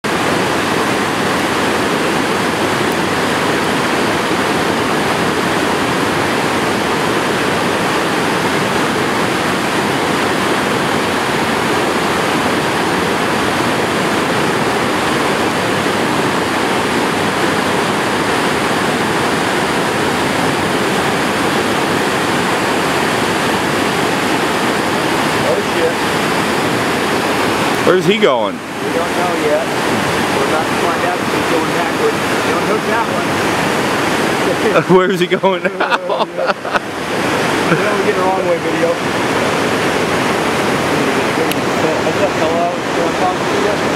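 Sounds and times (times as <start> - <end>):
roar of rushing whitewater: 0.0 - 43.9.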